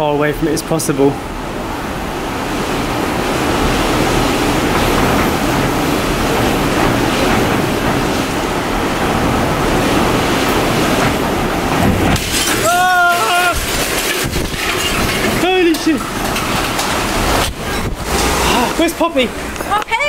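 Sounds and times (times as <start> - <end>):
strong wind through window: 0.0 - 20.0.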